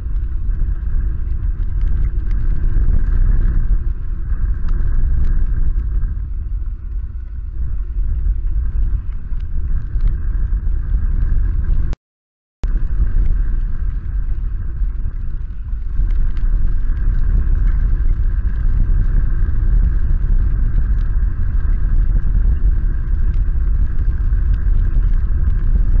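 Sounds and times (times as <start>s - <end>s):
heavy rain and hail ticks: 0.0s - 12.0s, 12.6s - 26.0s
wind buffeting microphone: 0.0s - 12.0s, 12.6s - 26.0s.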